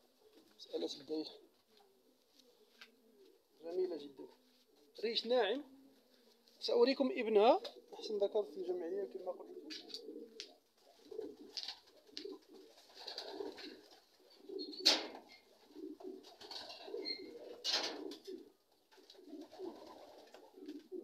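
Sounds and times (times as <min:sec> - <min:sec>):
pigeons cooing: 0:00.0 - 0:06.7, 0:07.3 - 0:21.0.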